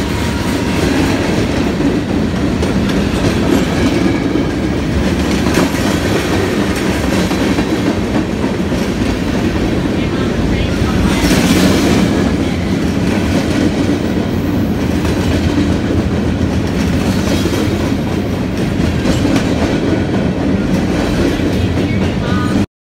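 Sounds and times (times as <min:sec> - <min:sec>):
freight train wheels clacking: 0:00.0 - 0:22.7.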